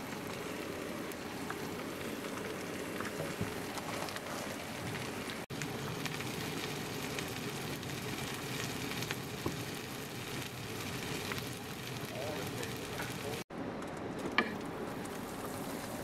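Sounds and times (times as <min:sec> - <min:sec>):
eggs sizzling in a pan: 0:00.0 - 0:13.5, 0:14.3 - 0:16.0.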